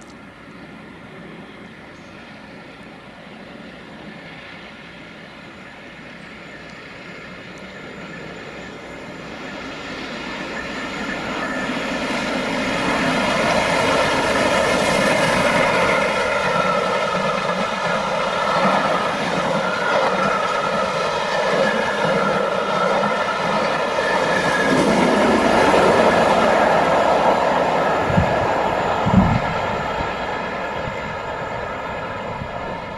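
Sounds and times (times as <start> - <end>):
steam locomotive passing at speed: 0.2 - 32.9.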